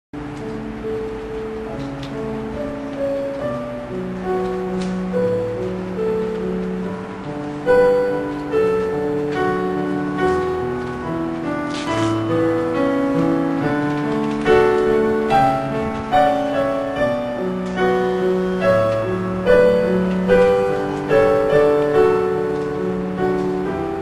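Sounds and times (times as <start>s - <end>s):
slow gentle piano music: 0.2s - 24.0s.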